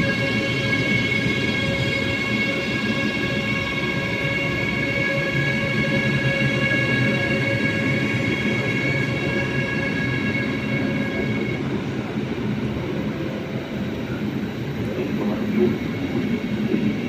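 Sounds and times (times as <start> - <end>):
multi-tone train whine: 0.0 - 17.0
train rumble: 0.0 - 17.0.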